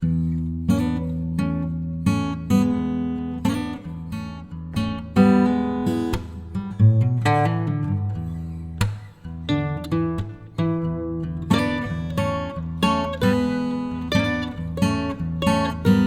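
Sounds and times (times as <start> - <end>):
acoustic guitar strumming chords: 0.2 - 16.0.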